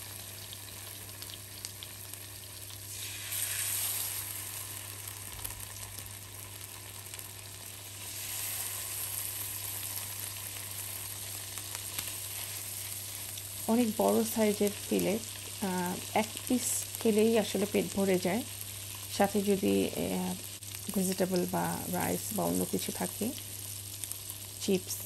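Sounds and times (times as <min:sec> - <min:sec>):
fish sizzling in butter: 0:00.0 - 0:25.0.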